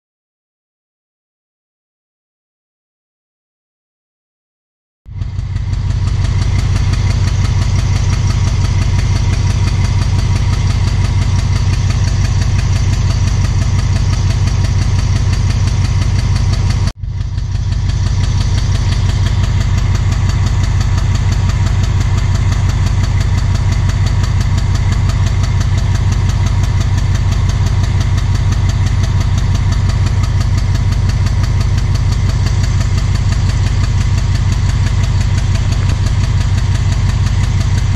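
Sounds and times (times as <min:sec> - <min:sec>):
locomotive diesel engine throbbing: 0:05.1 - 0:37.9.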